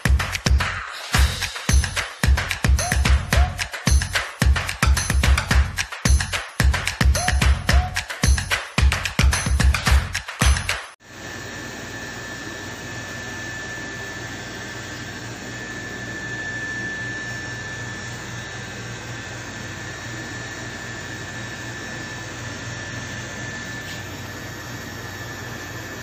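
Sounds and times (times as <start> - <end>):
thin high whine: 0.0 - 26.0.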